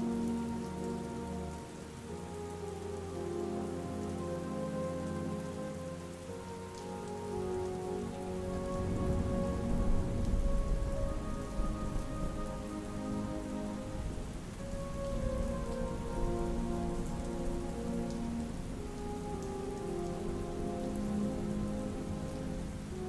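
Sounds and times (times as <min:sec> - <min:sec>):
soft ambient music: 0:00.0 - 0:23.0
steady rain pattering: 0:00.0 - 0:23.0.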